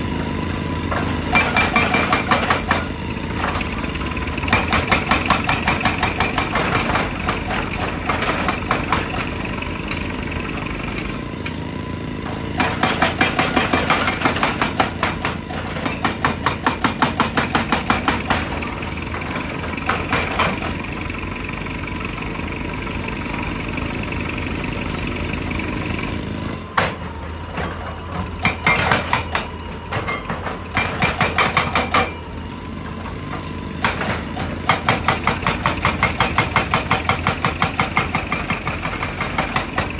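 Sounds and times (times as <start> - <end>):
excavator engine running: 0.0 - 39.9
hydraulic breaker hammering rock: 0.0 - 39.9.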